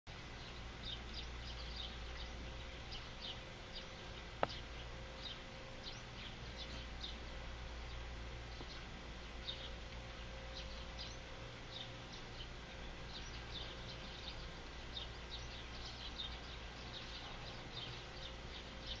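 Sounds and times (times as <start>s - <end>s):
low steady hum: 0.1s - 19.0s.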